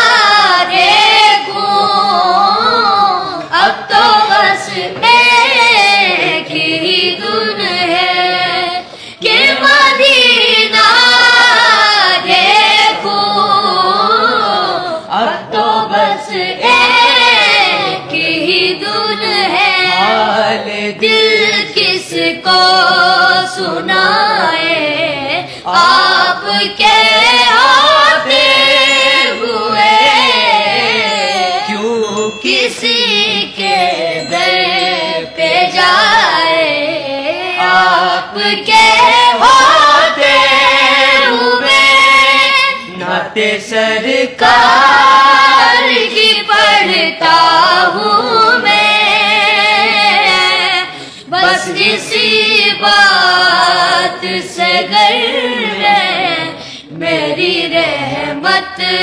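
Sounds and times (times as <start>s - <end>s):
person singing devotional song: 0.0s - 59.0s.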